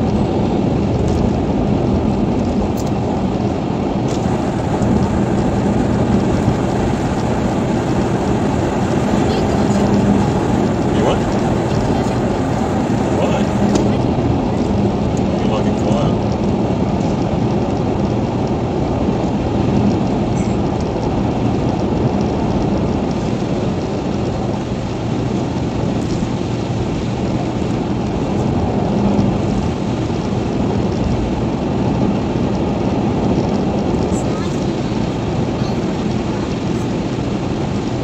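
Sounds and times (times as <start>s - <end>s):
car tyres and engine rumble: 0.0s - 38.0s.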